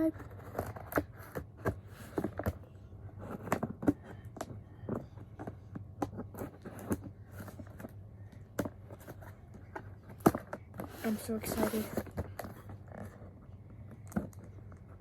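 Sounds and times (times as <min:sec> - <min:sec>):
faint low hum: 0:00.0 - 0:15.0
handling box packaging: 0:00.0 - 0:15.0.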